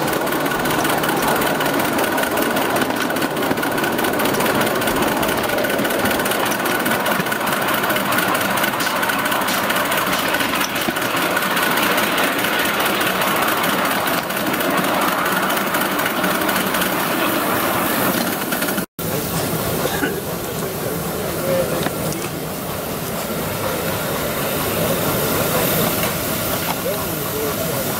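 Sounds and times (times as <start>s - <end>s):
steam locomotive exhaust: 0.0s - 27.9s
wheels on rails: 0.0s - 27.9s.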